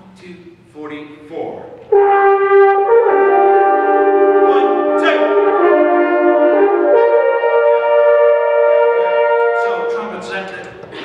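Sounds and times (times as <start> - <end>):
wind band playing chords: 1.7 - 11.0.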